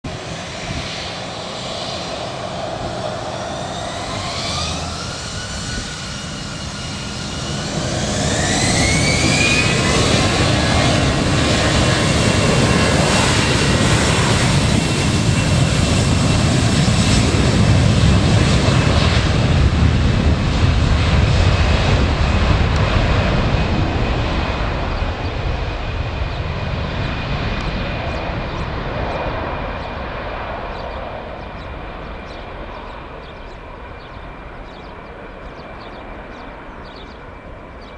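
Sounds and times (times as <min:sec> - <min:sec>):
jet engines spooling up: 0:00.1 - 0:37.9.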